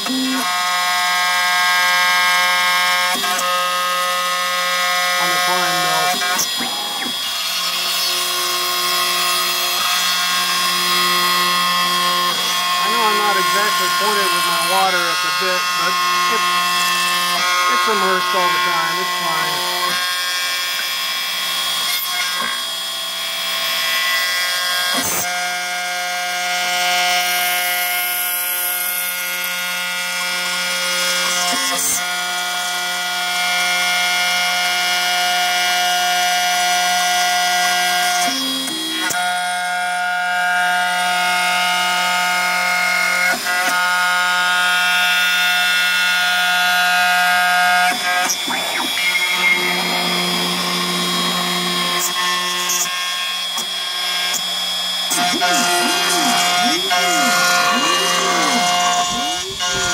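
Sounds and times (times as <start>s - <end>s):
milling machine whine: 0.0s - 33.6s, 34.2s - 59.9s.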